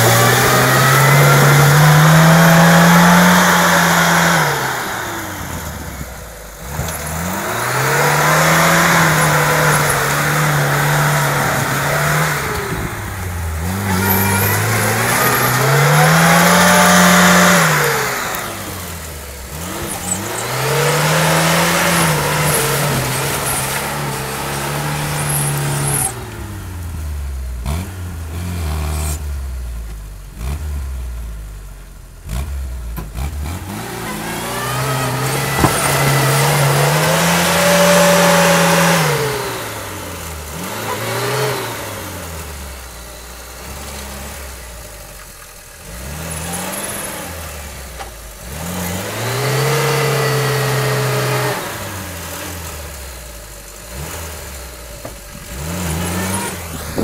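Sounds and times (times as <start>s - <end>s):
engine revving: 0.0s - 29.7s, 32.2s - 45.0s, 45.7s - 57.0s.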